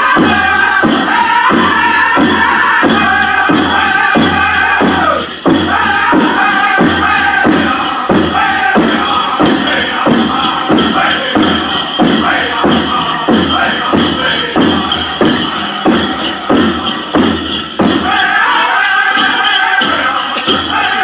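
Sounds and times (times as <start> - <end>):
group singing: 0.0 - 21.0
steady unison drumbeat: 0.0 - 21.0.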